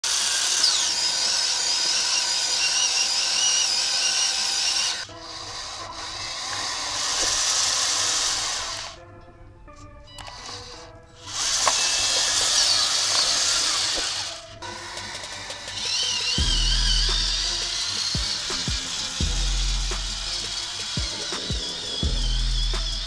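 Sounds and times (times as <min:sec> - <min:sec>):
electric motor whining: 0:00.0 - 0:09.0, 0:10.2 - 0:23.0.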